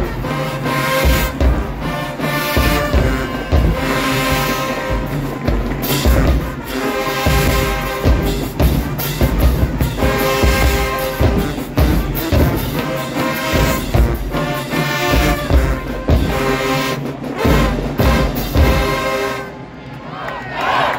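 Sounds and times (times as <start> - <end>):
brass chords: 0.0 - 19.8
drum hits: 0.9 - 19.2.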